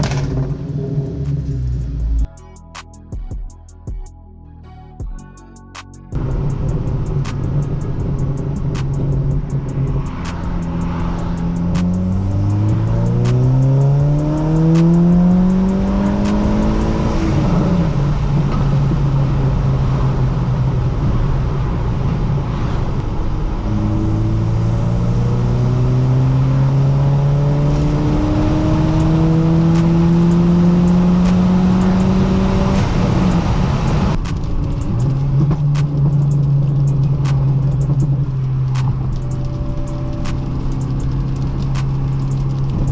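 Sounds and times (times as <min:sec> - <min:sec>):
car engine revving: 0:00.0 - 0:02.3, 0:06.2 - 0:42.9
exhaust pops and crackles: 0:00.0 - 0:02.3, 0:06.2 - 0:23.7, 0:27.5 - 0:42.9.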